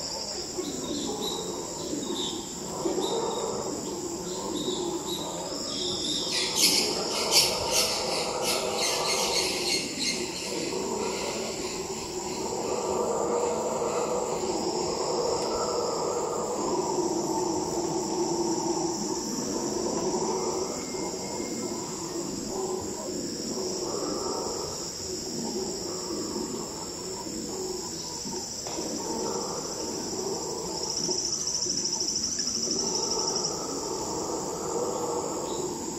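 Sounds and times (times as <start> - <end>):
howler monkeys roaring: 0.0 - 35.9
insects droning: 0.0 - 35.9.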